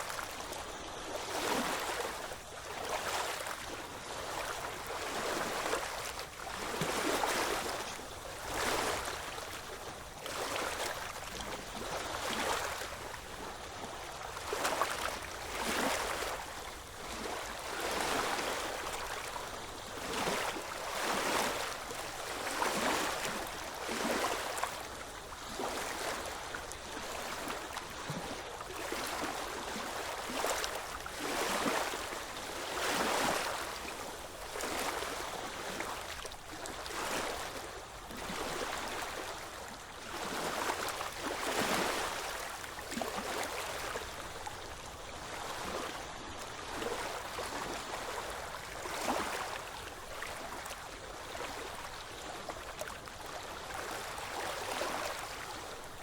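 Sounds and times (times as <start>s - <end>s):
waves splashing on shore: 0.0s - 56.0s.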